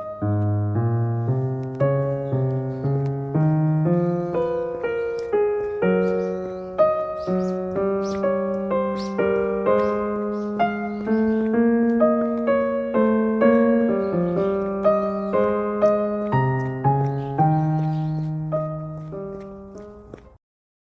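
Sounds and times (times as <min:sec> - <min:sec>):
gentle piano melody: 0:00.0 - 0:20.4.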